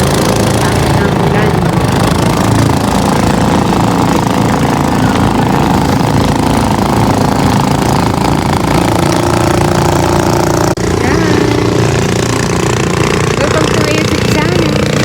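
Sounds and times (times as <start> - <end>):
engine running with rattling pulse: 0.0 - 15.0.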